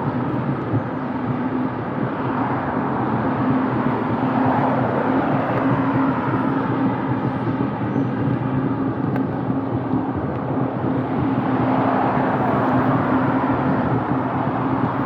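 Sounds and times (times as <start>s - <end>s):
road traffic rush: 0.0s - 15.0s
wind: 0.0s - 15.0s.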